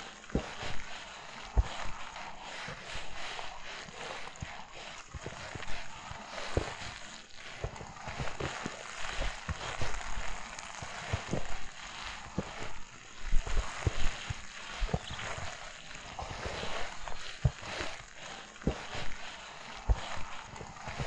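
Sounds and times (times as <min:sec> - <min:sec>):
footsteps crunching through snow: 0:00.0 - 0:21.0.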